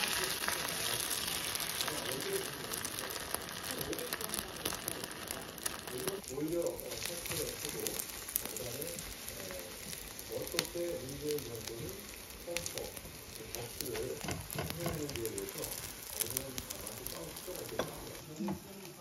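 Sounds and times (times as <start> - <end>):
food sizzling in hot oil: 0.0 - 19.0
oil crackling and popping: 0.0 - 19.0.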